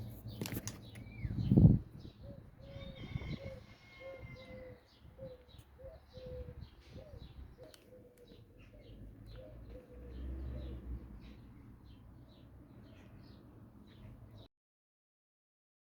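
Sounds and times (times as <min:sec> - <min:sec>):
faint birdsong chirps: 0:00.0 - 0:14.5.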